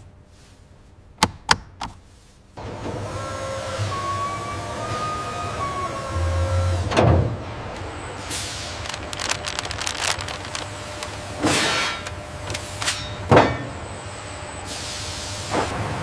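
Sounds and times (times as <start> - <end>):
machinery hum: 2.1 - 16.0.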